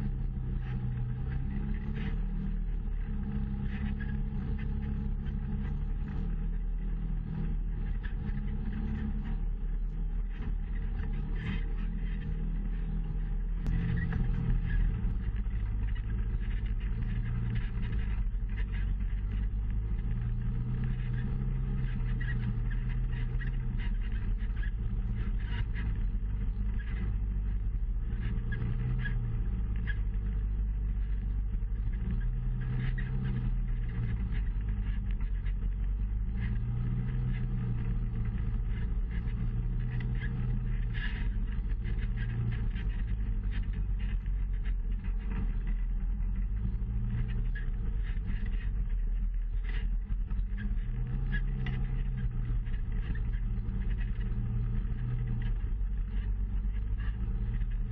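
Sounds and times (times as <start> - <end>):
off-road vehicle engine: 0.0 - 57.9.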